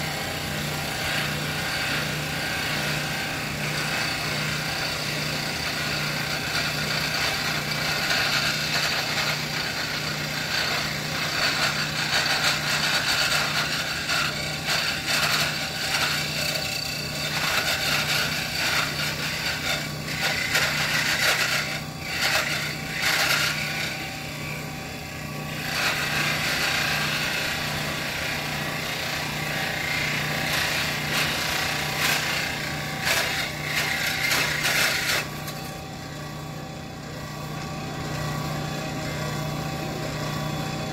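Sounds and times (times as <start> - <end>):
electric power tool grinding: 0.0 - 40.9.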